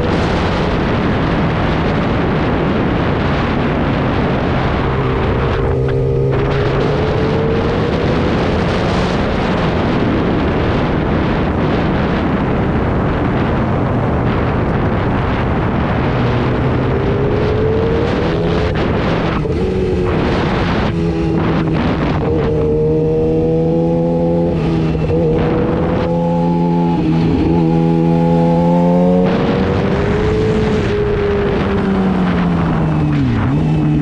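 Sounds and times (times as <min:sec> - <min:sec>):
motorcycle engine running: 0:00.0 - 0:34.0
wind rushing over microphone: 0:00.0 - 0:34.0.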